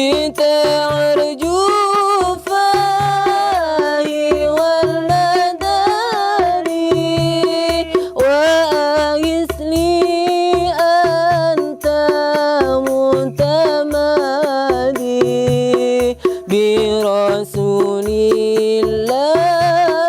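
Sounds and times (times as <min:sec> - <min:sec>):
drum and bass beat: 0:00.0 - 0:20.0.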